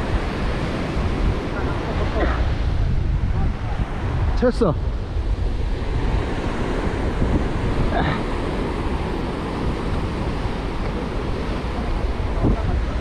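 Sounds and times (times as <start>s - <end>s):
ocean surf on rocks: 0.0s - 13.0s
wind rumbling on microphone: 0.0s - 13.0s.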